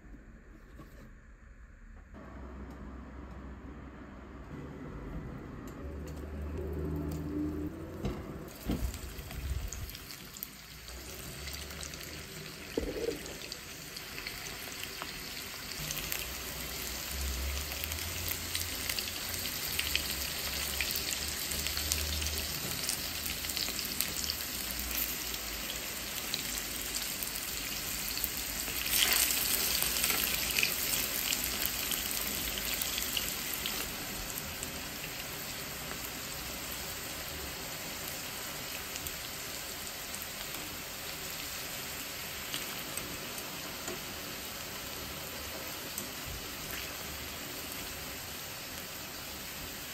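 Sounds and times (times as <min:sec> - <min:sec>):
potatoes sizzling in oil: 0:08.5 - 0:49.9.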